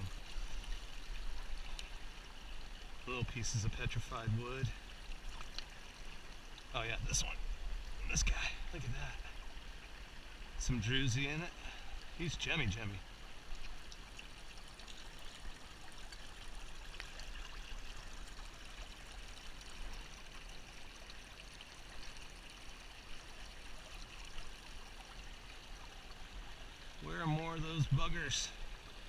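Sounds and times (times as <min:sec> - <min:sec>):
creek babbling over stones: 0:00.0 - 0:29.0.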